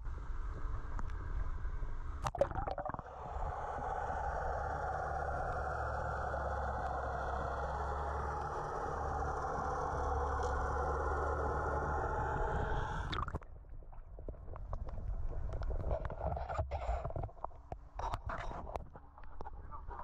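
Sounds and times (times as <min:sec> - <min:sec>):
muffled underwater drone: 0:00.0 - 0:20.0.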